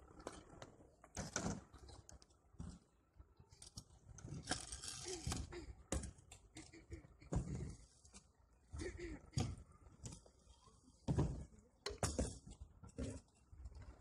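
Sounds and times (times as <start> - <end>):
scooter wheels rolling on ramp: 0.0 - 14.0.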